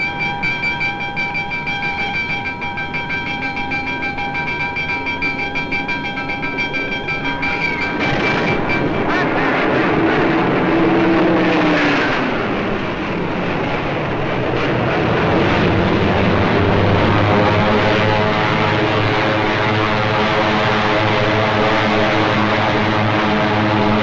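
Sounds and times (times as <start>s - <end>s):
propeller plane engines droning: 0.0s - 24.0s.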